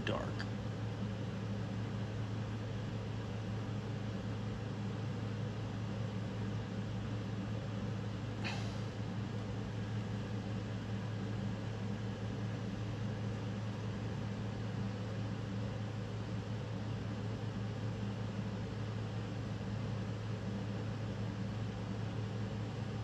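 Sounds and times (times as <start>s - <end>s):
low background hum with hiss: 0.0s - 23.0s.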